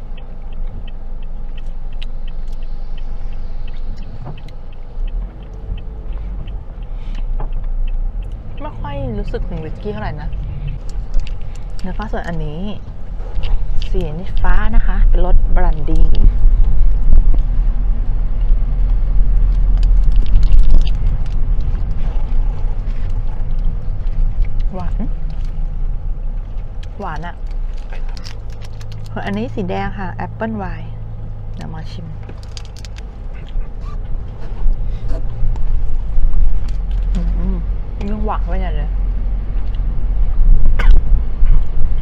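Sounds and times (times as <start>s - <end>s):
faint regular ticking: 0.0s - 39.0s
car rumble from inside cabin: 0.0s - 42.0s.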